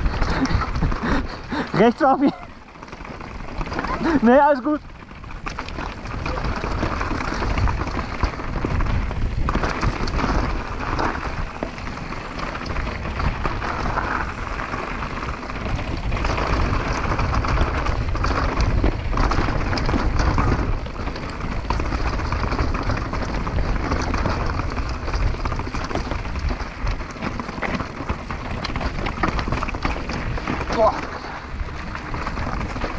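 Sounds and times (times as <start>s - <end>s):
wind rushing over microphone: 0.0s - 2.5s, 3.2s - 32.9s
bike clattering over bumps: 0.0s - 32.9s
tyres on dirt and gravel: 0.0s - 32.9s.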